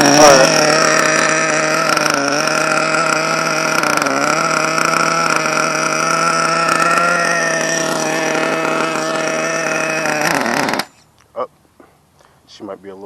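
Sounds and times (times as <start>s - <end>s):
model nitro engine idling: 0.0s - 11.0s.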